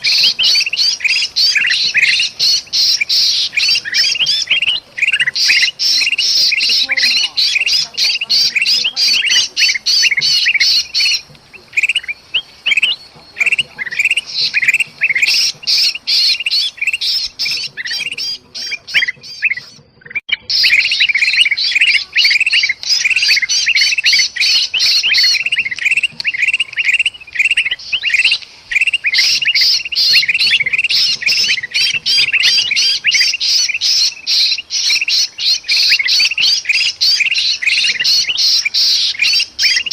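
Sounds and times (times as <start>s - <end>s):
bird distress calls: 0.0s - 39.9s
bulbuls squawking chorus: 0.0s - 39.9s.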